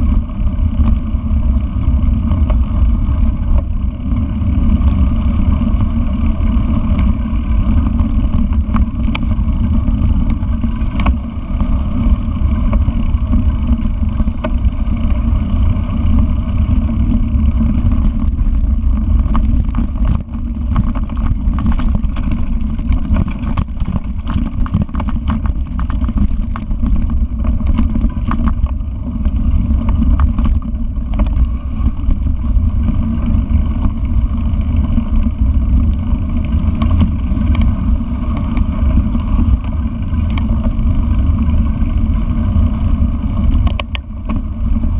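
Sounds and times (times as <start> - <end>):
bike clattering over bumps: 0.0 - 44.9
wind and tyre rumble: 0.0 - 44.9.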